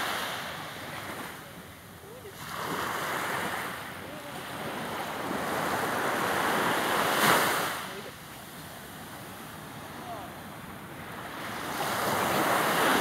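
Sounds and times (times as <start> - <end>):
sea waves breaking: 0.0 - 13.0.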